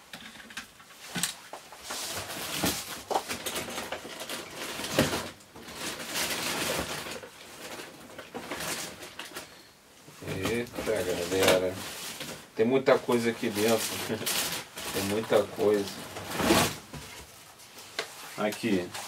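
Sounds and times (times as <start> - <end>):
packaging rustling: 0.4 - 19.0.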